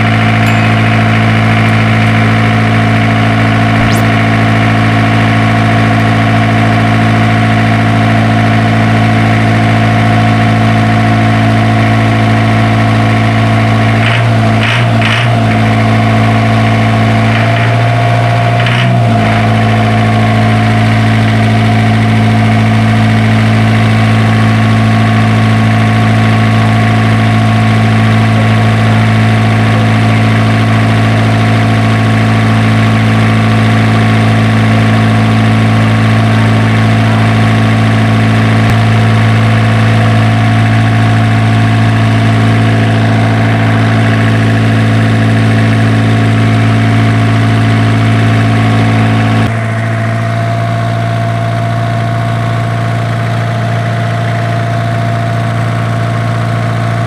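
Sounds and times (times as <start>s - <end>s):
diesel generator engine running: 0.0s - 57.0s.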